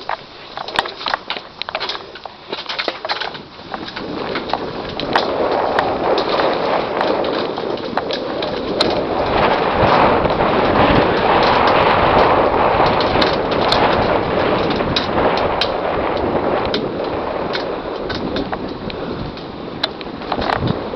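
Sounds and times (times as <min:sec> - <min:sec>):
bike rattling over ground: 0:00.0 - 0:20.9
rush of tyres and air: 0:00.0 - 0:20.9.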